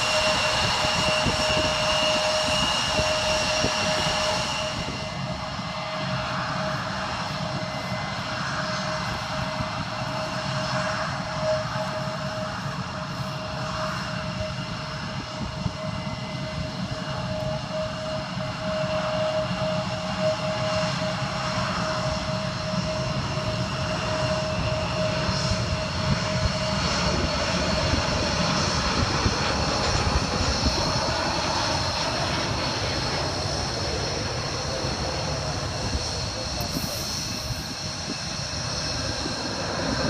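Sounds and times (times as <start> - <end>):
jet engine high whine: 0.0 - 40.0
jet engines rumbling: 0.0 - 40.0.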